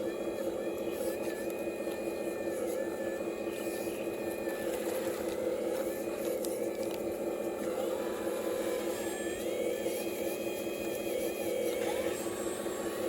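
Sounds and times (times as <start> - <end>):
high motor whine: 0.0 - 13.0
small electric motors whirring: 0.0 - 13.0.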